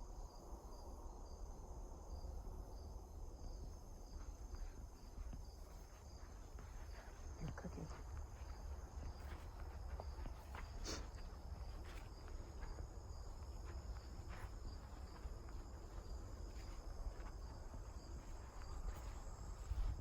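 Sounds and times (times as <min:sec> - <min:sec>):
insects trilling: 0:02.8 - 0:20.0.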